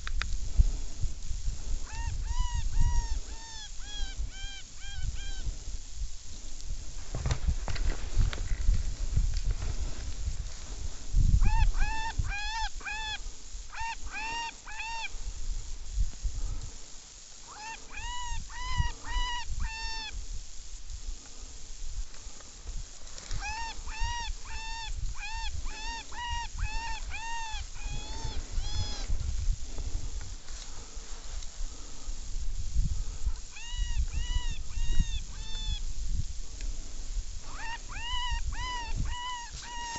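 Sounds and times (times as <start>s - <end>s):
wind on microphone: 0.0s - 16.9s, 17.5s - 39.9s.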